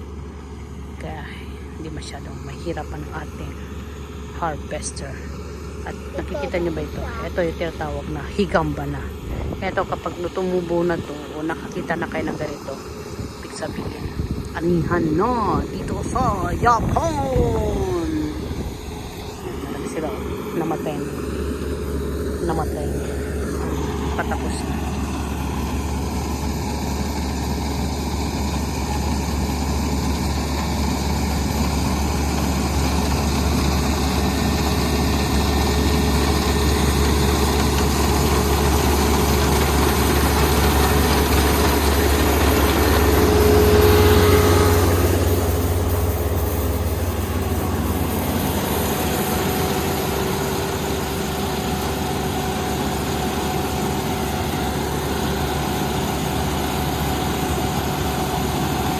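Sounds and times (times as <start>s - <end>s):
combine harvester diesel engine: 0.0s - 58.9s.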